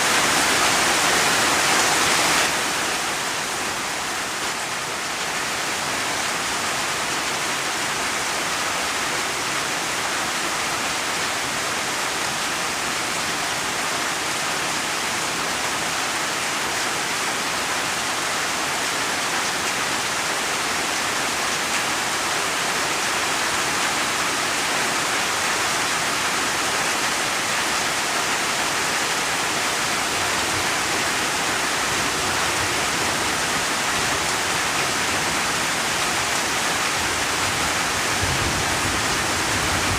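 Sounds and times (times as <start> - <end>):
steady dense rainfall: 0.0 - 39.9.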